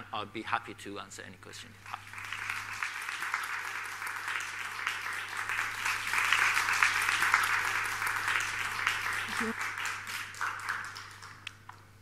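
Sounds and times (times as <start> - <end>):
audience applauding: 1.8 - 11.7.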